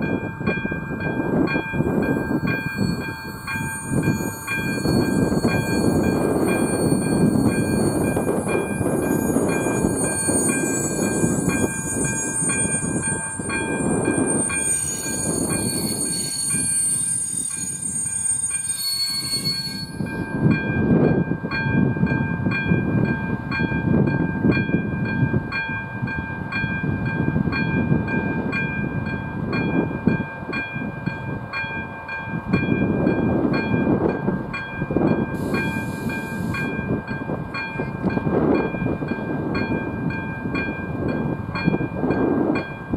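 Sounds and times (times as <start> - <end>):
crossing warning bell ringing: 0.0 - 42.9
high whine from train: 0.0 - 42.9
train rumbling over crossing: 0.0 - 42.9.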